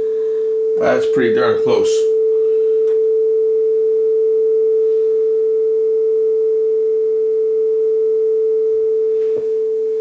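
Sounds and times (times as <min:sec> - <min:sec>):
steady test tone: 0:00.0 - 0:10.0.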